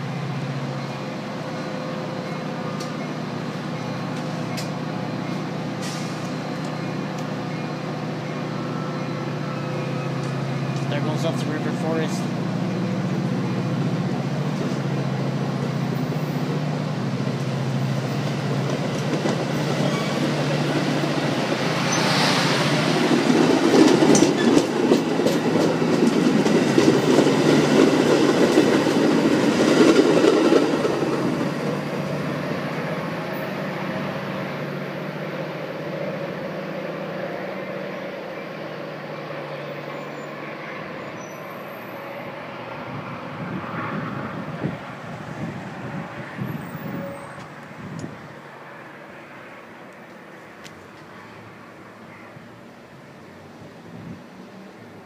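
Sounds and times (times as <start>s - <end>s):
train rolling past: 0.0s - 55.0s.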